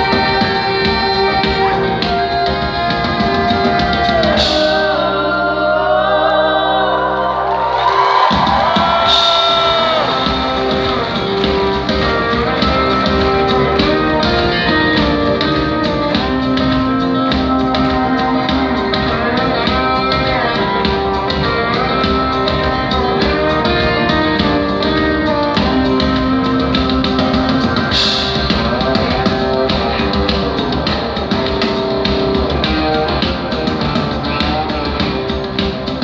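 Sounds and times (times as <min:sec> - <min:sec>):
live band music with guitar: 0:00.0 - 0:05.9, 0:07.4 - 0:36.0.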